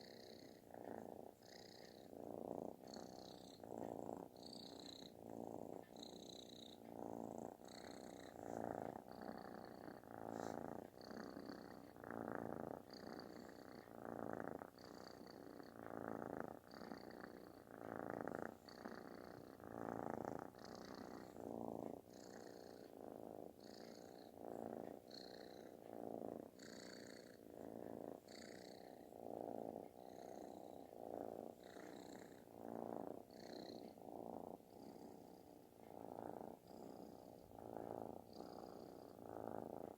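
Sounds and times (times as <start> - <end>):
kitten purring loudly: 0.0 - 39.9.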